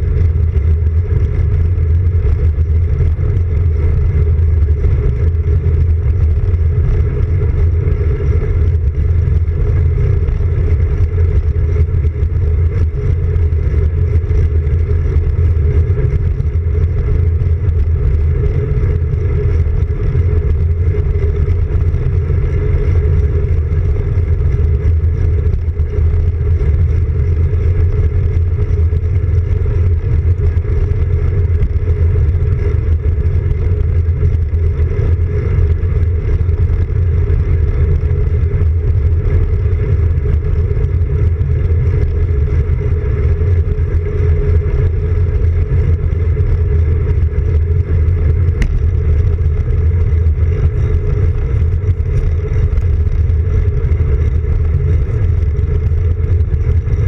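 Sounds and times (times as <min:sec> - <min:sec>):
bike tyres rumbling on asphalt: 0:00.0 - 0:57.0.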